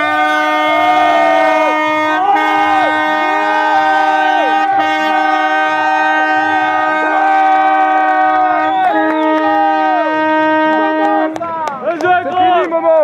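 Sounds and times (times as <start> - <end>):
wind instruments holding a note: 0.0 - 11.7.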